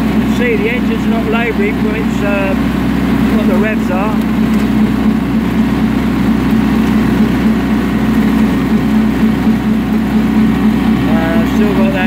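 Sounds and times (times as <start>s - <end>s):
tractor engine running steadily: 0.0s - 12.0s.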